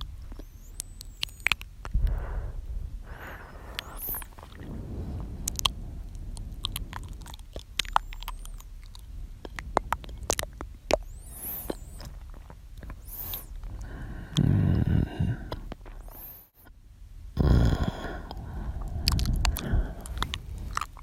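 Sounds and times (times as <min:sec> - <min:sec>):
wet tongue and lip clicks: 0:00.0 - 0:02.2, 0:03.1 - 0:16.7, 0:17.7 - 0:21.0
soft breathy hisses: 0:00.3 - 0:16.6, 0:17.4 - 0:21.0
low breath: 0:01.9 - 0:12.2, 0:12.9 - 0:16.5, 0:17.4 - 0:21.0.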